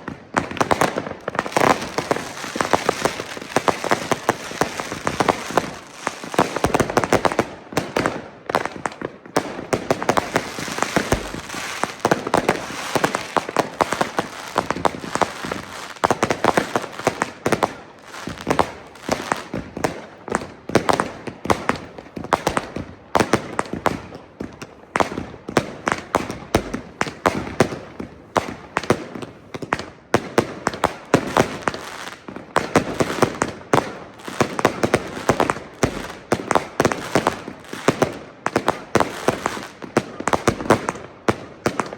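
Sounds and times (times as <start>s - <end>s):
firecrackers popping and banging: 0.0s - 41.9s.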